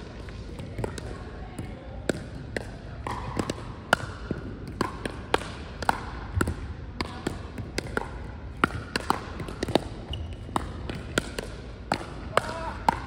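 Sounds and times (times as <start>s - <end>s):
paddles striking plastic ball: 0.6s - 13.0s.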